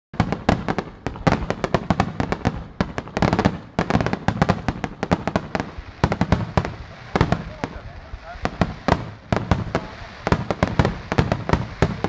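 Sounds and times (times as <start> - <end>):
fireworks bursting with echoing bangs: 0.2 - 12.0.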